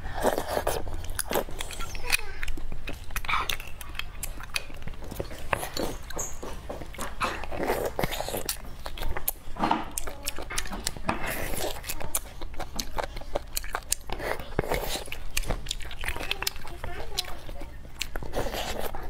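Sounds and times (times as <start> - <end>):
wet chewing and mouth smacks: 0.0 - 19.0.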